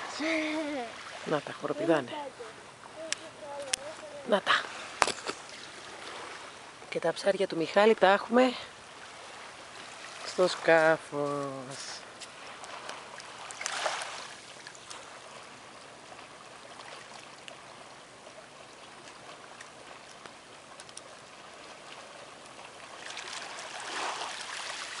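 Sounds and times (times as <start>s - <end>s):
small water splashes: 0.0s - 6.8s, 8.7s - 25.0s
sea water lapping at shore: 0.0s - 25.0s.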